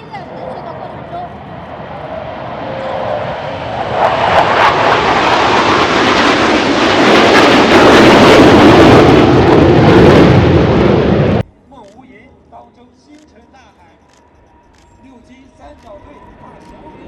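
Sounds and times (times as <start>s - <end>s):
jet aircraft flying overhead: 0.0s - 17.0s.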